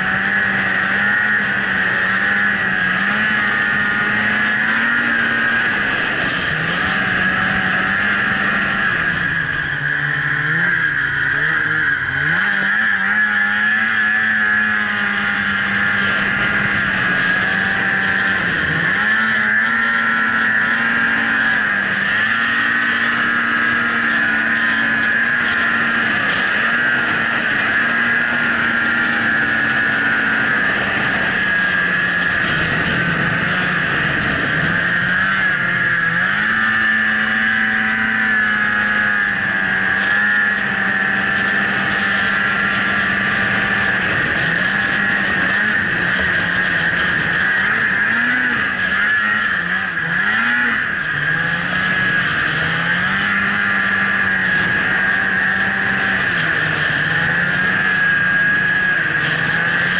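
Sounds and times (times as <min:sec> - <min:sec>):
high whine: 0:00.0 - 0:59.9
snowmobile engine running: 0:00.0 - 0:59.9.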